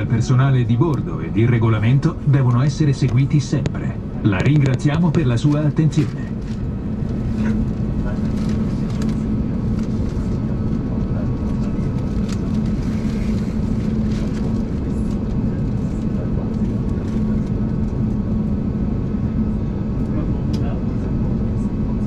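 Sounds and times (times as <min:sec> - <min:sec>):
aircraft cabin drone: 0:00.0 - 0:22.0.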